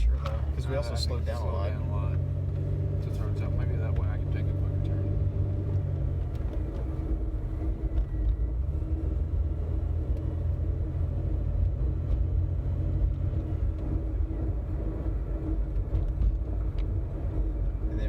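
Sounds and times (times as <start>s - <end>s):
road rumble inside car: 0.0s - 18.0s.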